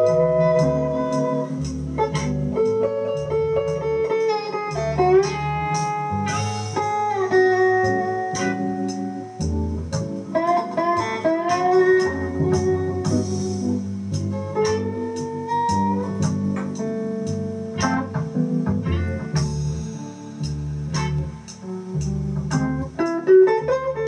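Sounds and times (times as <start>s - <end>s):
low repeating bass line: 0.0s - 4.1s, 4.7s - 23.0s
blues slide guitar: 0.0s - 24.0s.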